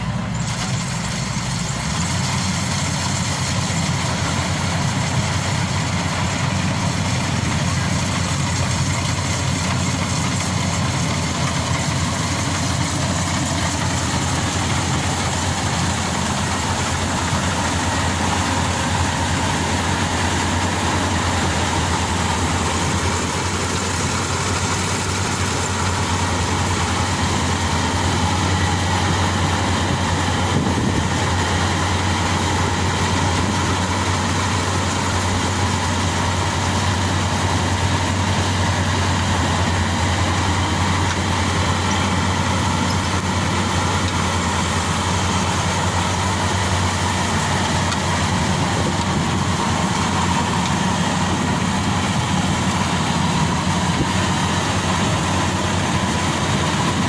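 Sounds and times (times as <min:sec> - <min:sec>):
combine harvester engine humming: 0:00.0 - 0:57.0.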